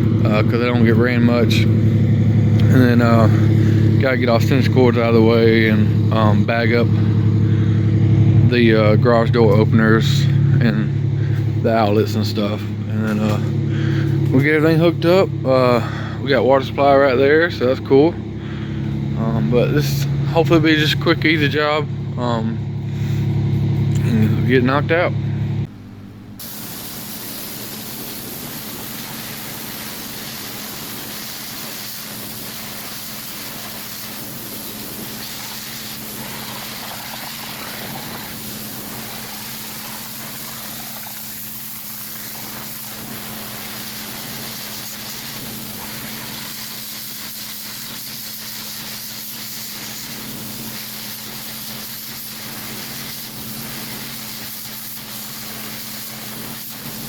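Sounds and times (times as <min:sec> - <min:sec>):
pressure washer water hiss: 0:00.0 - 0:19.1, 0:26.4 - 0:57.0
engine hum: 0:00.0 - 0:57.0.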